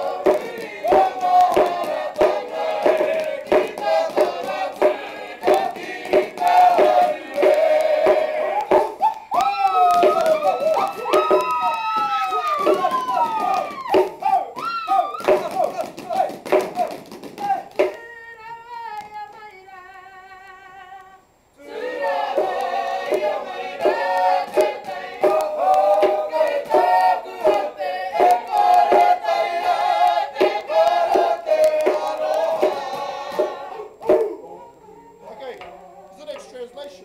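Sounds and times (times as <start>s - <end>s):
rhythmic poi slaps: 0.0s - 19.4s, 21.7s - 34.4s
group singing together: 0.0s - 19.7s, 21.5s - 36.6s.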